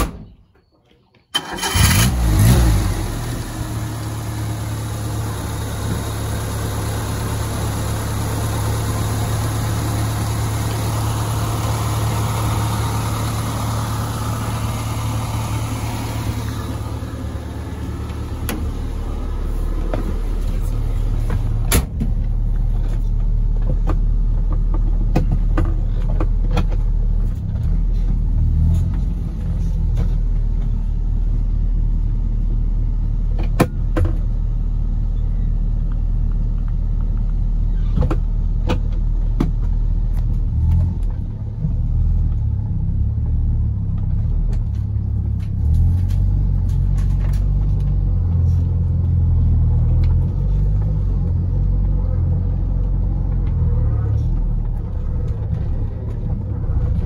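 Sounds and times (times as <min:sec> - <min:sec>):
car engine idling: 0:01.4 - 0:57.0.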